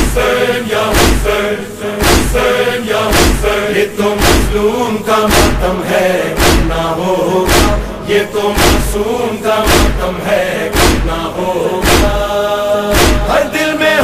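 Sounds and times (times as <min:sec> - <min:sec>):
steady thuds: 0:00.0 - 0:13.4
men chanting: 0:00.0 - 0:14.0.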